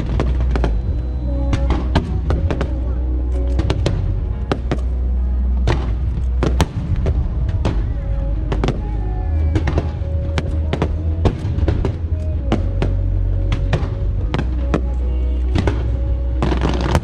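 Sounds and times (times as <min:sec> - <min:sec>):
fireworks bangs: 0:00.0 - 0:17.0
loud music with heavy bass: 0:00.0 - 0:17.0.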